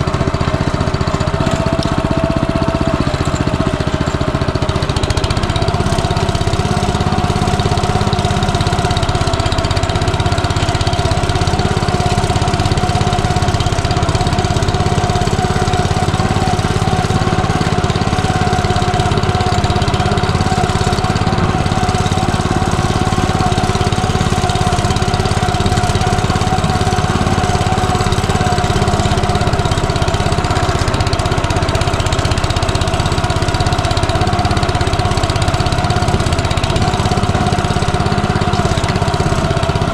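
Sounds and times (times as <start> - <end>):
tractor engine running with whine: 0.0 - 39.9.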